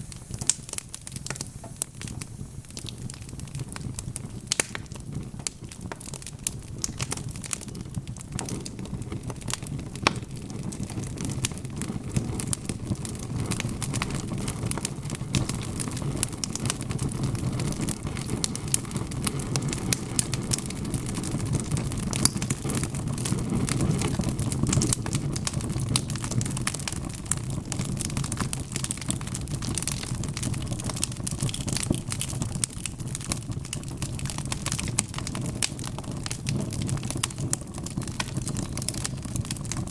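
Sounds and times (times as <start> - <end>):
burning logs rumbling: 0.0 - 39.9
wood fire crackling and popping: 0.0 - 39.9.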